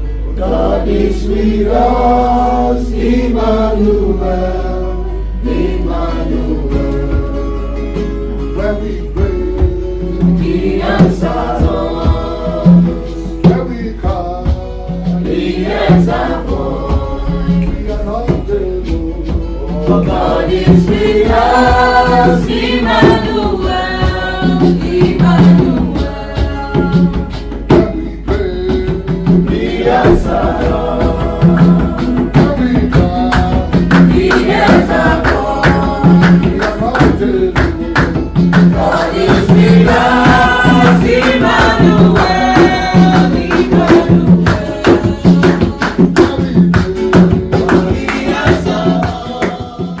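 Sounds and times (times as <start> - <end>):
gospel choir singing: 0.0 - 50.0
band playing: 0.4 - 50.0
low drum beat: 8.7 - 50.0.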